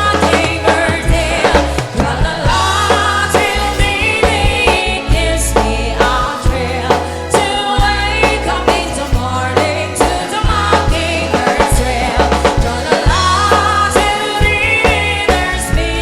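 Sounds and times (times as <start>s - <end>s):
band playing a song: 0.0s - 16.0s
person singing: 0.0s - 16.0s.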